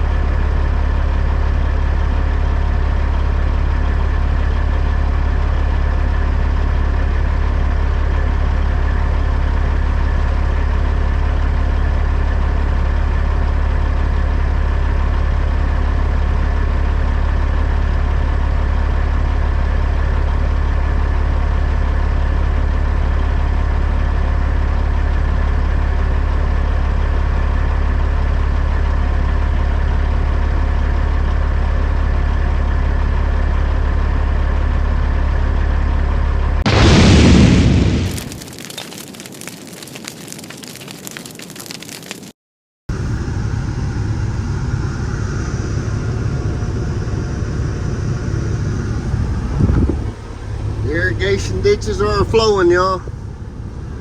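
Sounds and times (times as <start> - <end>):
diesel truck engine humming: 0.0 - 38.0, 42.9 - 54.0.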